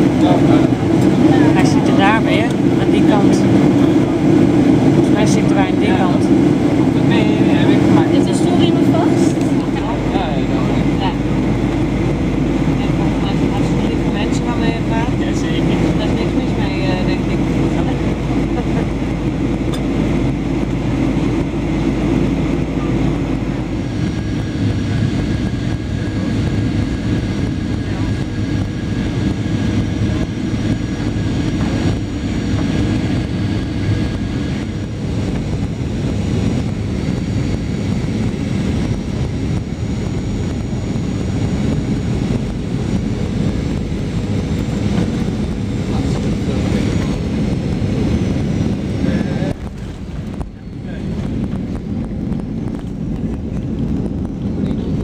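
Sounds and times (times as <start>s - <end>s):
airliner cabin engine rush: 0.0s - 55.0s.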